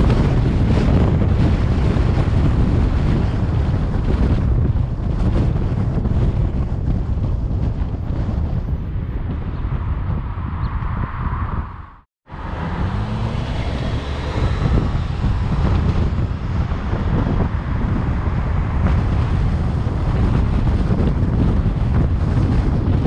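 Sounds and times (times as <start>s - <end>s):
car road noise rumble: 0.0s - 23.0s
wind buffeting microphone: 0.0s - 23.0s.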